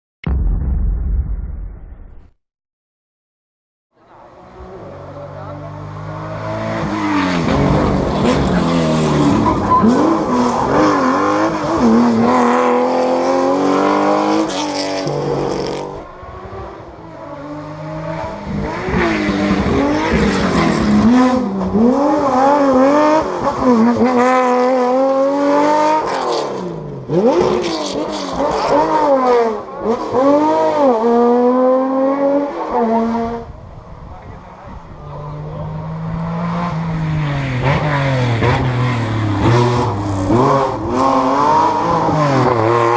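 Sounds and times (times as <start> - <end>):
rally car engines revving: 4.0 - 42.9.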